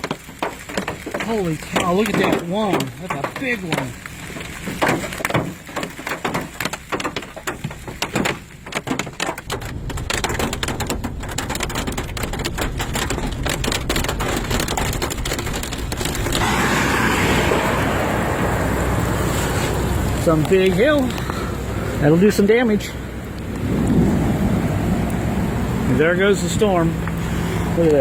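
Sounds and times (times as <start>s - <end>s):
hailstones pelting a vehicle: 0.0s - 28.0s.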